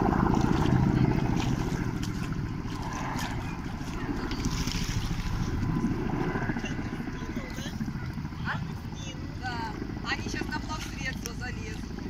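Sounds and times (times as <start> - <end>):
helicopter rotors beating: 0.0 - 12.0
wind: 0.0 - 12.0.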